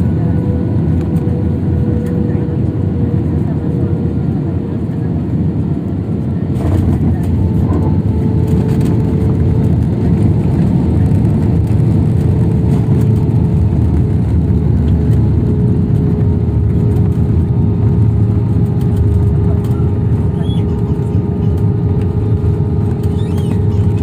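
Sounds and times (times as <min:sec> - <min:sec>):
jet airliner landing: 0:00.0 - 0:24.0.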